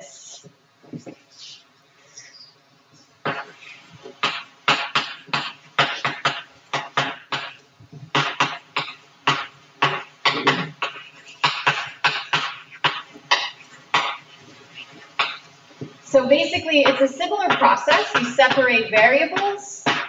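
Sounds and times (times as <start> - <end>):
chalk tapping and scratching: 3.2 - 20.0.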